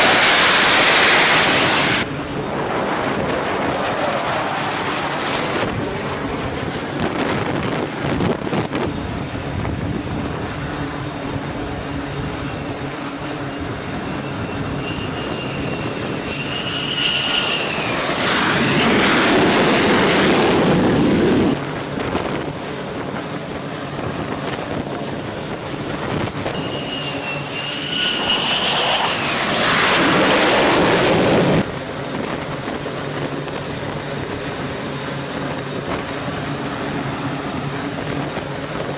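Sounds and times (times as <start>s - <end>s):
jet engine surge: 0.0s - 38.9s
jet engines whining: 0.0s - 38.9s.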